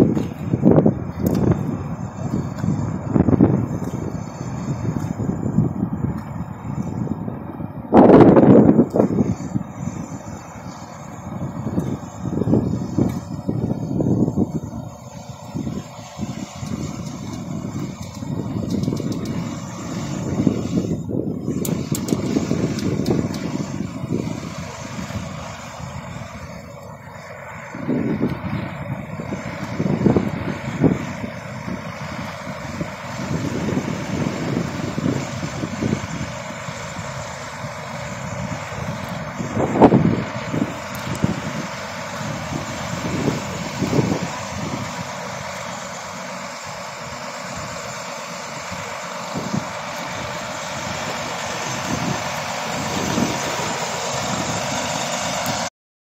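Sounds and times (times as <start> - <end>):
truck engines and traffic: 0.0 - 55.7
wind buffeting microphone: 0.0 - 55.7.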